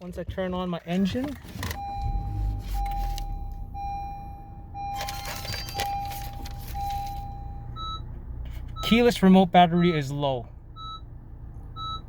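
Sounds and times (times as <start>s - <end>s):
car engine running: 0.9s - 12.0s
dashboard warning beeps: 1.6s - 12.0s.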